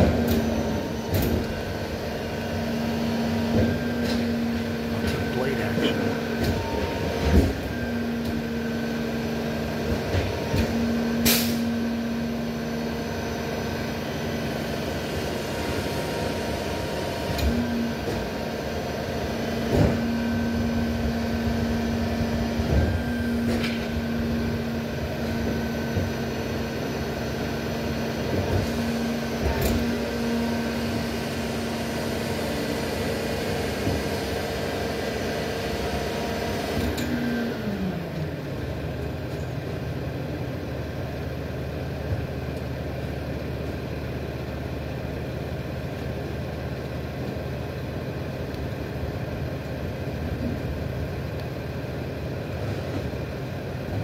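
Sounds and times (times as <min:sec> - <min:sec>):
diesel truck engine whining: 0:00.0 - 0:54.0.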